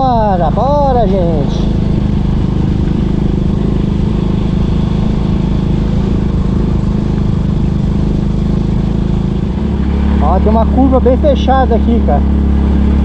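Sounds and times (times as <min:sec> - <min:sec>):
motorcycle engine under heavy load: 0:00.0 - 0:13.0.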